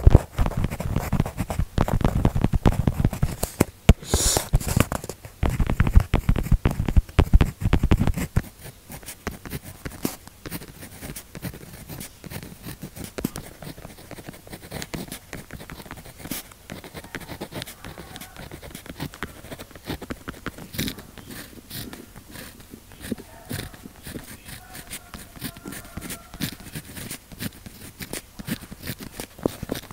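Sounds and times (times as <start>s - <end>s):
pen scratching on paper: 0.0s - 29.9s.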